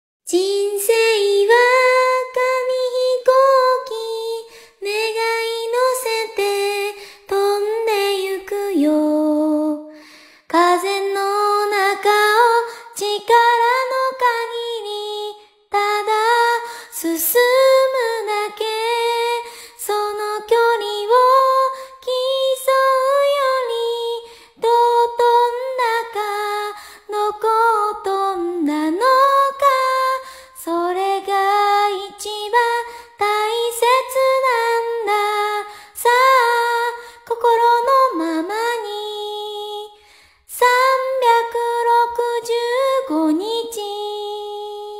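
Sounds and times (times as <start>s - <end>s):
woman singing: 0.2s - 44.9s.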